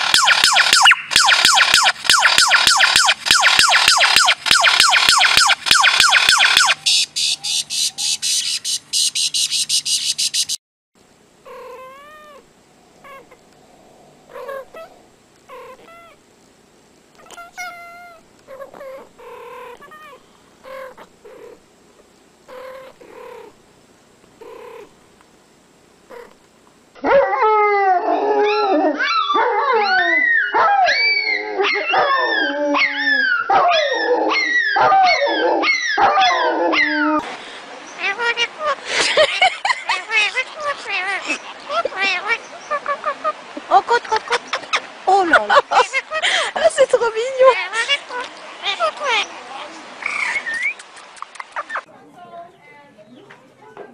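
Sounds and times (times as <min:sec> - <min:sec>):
small animals crying: 0:00.0 - 0:10.6, 0:11.4 - 0:16.2, 0:17.2 - 0:21.6, 0:22.5 - 0:23.6, 0:24.4 - 0:24.9, 0:26.1 - 0:26.4, 0:27.4 - 0:37.2, 0:37.8 - 0:51.9.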